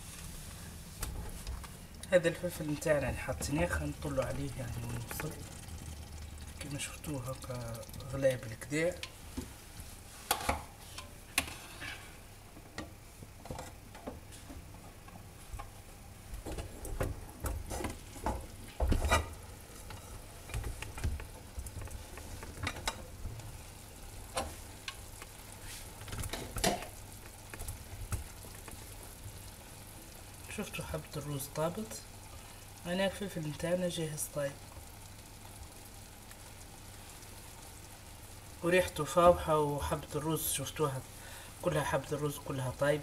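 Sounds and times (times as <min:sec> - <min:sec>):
food sizzling in frying pan: 0:00.0 - 0:14.4, 0:15.4 - 0:43.0.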